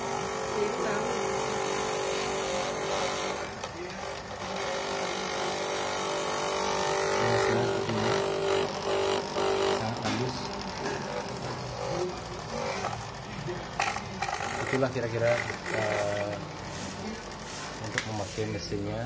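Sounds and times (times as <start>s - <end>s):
drum grating coconut: 0.0s - 19.0s
electric motor humming: 0.0s - 19.0s.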